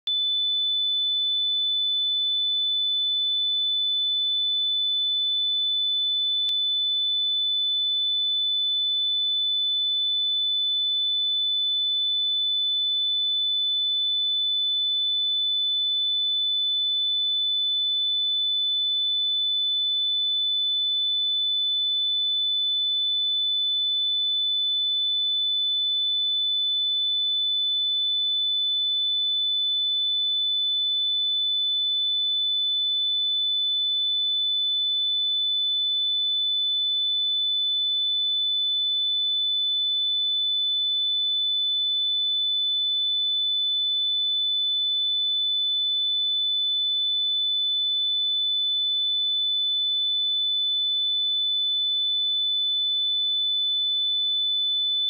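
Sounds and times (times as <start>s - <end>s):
high-pitched sine test tone: 0.0s - 55.0s.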